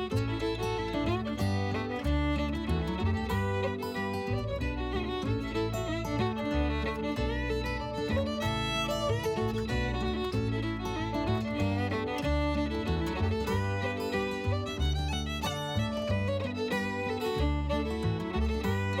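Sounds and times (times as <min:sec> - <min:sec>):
bass line: 0:00.0 - 0:19.0
fiddle: 0:00.0 - 0:19.0
guitar: 0:00.0 - 0:19.0.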